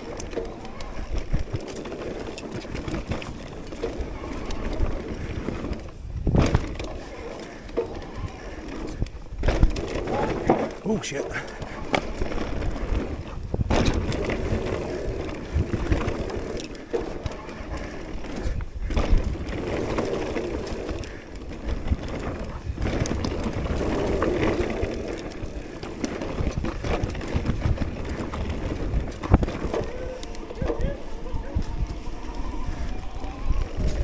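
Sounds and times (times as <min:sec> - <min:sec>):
bike knocks and rattles: 0:00.0 - 0:32.1
tyre noise: 0:00.0 - 0:34.0
wind buffeting microphone: 0:02.5 - 0:34.0.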